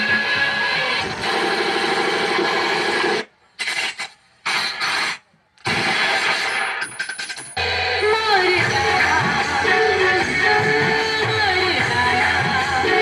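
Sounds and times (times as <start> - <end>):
distorted dance music over speakers: 0.0 - 13.0.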